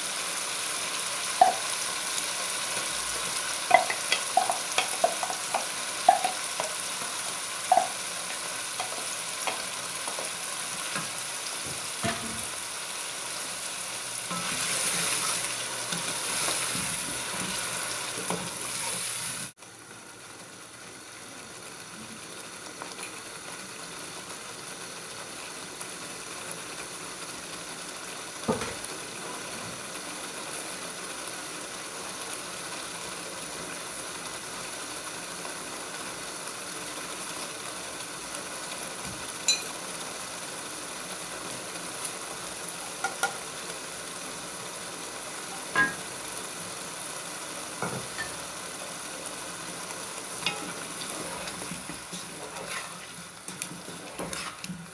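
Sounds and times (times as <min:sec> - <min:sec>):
food sizzling in a pot: 0:00.0 - 0:54.9.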